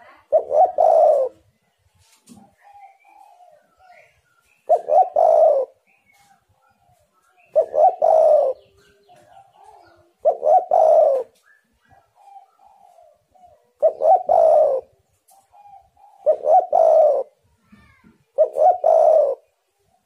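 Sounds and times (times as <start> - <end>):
dove cooing: 0.0 - 1.6, 2.4 - 19.6
other birds cooing and chirping: 0.0 - 20.0.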